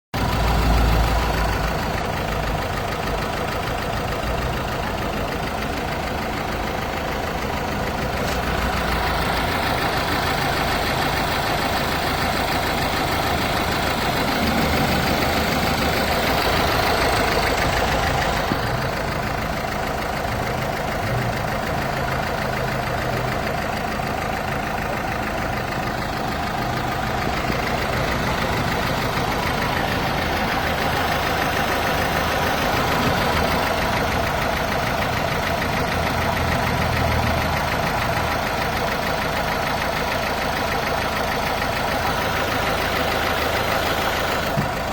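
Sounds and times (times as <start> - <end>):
diesel engine idling: 0.1 - 44.9.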